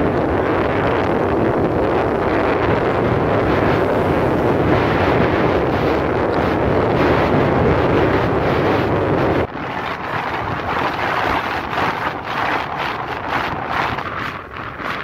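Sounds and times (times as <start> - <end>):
moving vehicle noise: 0.0 - 15.0
wind buffeting microphone: 0.0 - 15.0.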